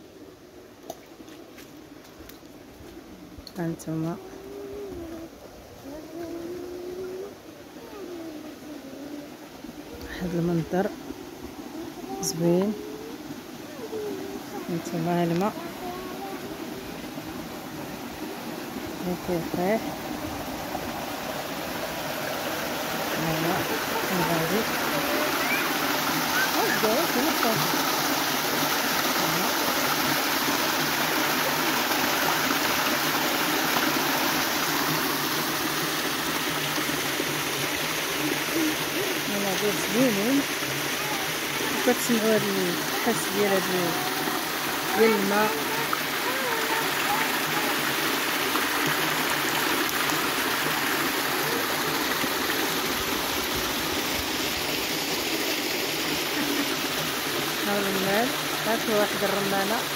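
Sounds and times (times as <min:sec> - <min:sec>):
water rushing over a step: 0:09.8 - 0:59.9.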